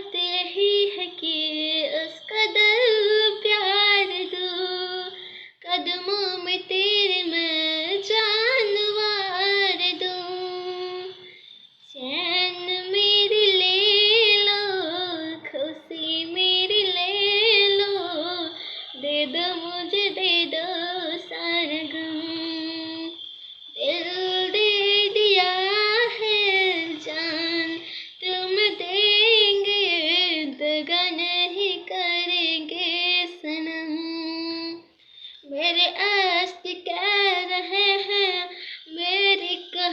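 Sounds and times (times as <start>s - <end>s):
boy singing: 0.0s - 11.3s, 11.9s - 23.2s, 23.8s - 39.9s.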